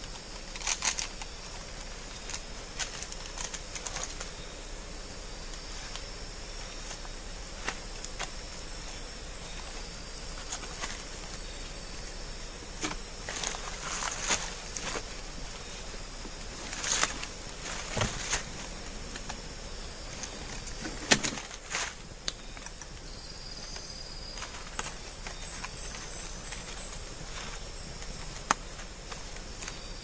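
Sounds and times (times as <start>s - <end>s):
high insect hiss: 0.0s - 30.0s.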